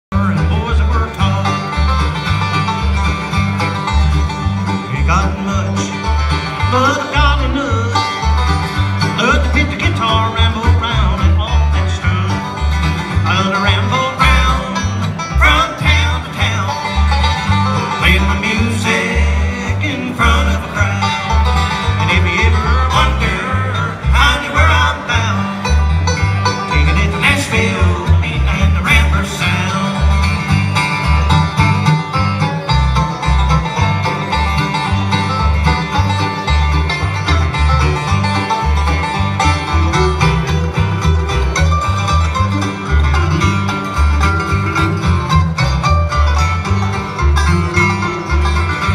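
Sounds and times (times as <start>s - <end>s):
upright bass: 0.0s - 48.9s
acoustic guitars: 0.1s - 48.9s
banjo: 0.1s - 48.9s.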